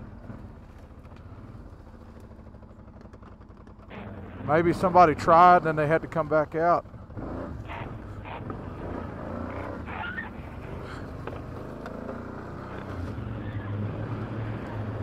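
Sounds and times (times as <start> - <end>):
atv engine droning: 0.0 - 15.0.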